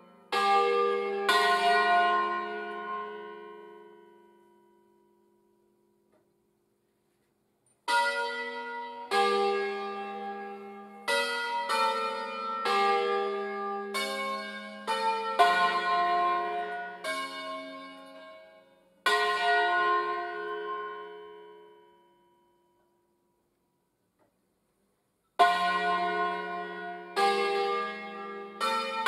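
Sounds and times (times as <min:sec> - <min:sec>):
church bells ringing a melody: 0:00.0 - 0:06.1, 0:07.8 - 0:23.2, 0:25.4 - 0:29.0.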